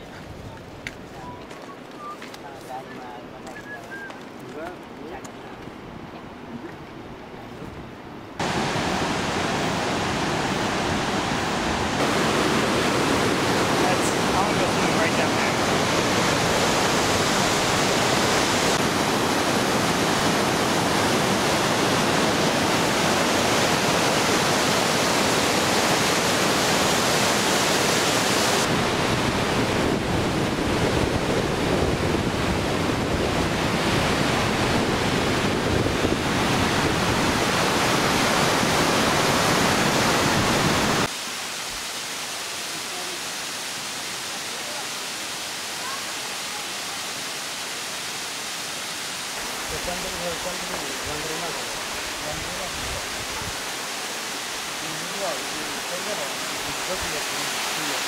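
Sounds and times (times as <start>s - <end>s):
whitewater rushing in rapids: 8.2s - 58.0s.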